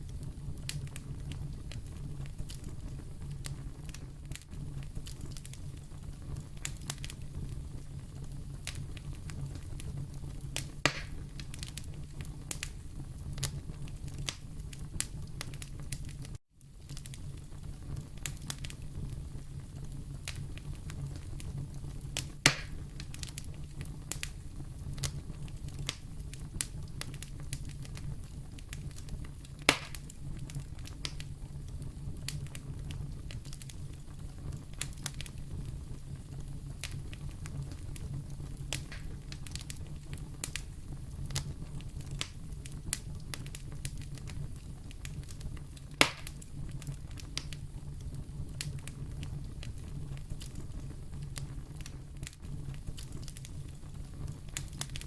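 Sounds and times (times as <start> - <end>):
low fire rumble: 0.0 - 55.0
sharp fire pops: 0.0 - 55.0
wood fire crackling: 0.0 - 55.0.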